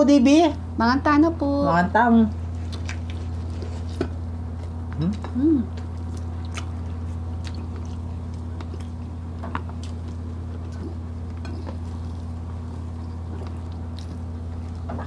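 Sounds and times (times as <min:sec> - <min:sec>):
low hum: 0:00.0 - 0:15.0
chewing with wet smacks: 0:02.3 - 0:15.0.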